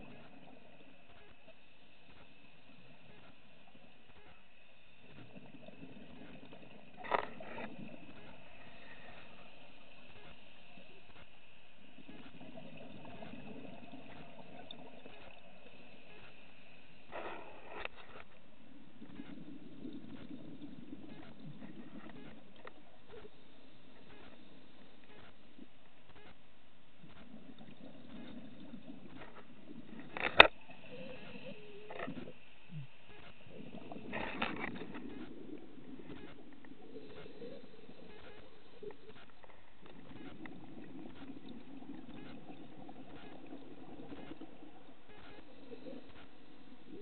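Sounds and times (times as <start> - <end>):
bubbling: 0.0 - 26.3, 27.0 - 47.0
muffled underwater noise: 0.0 - 47.0.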